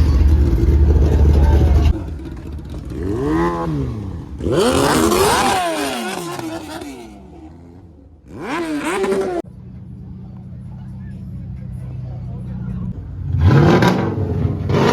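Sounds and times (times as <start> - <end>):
car engines revving: 0.0 - 14.9.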